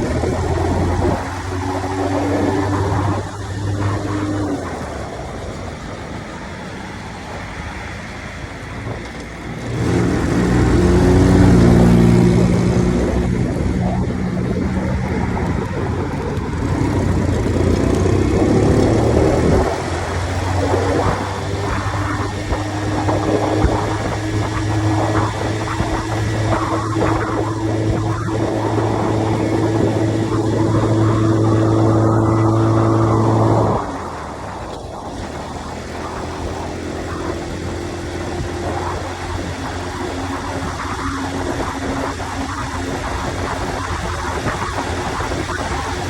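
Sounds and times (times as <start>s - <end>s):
mini motorcycle engine running: 0.0s - 46.0s
road noise: 0.0s - 46.0s
wind noise: 0.0s - 46.0s.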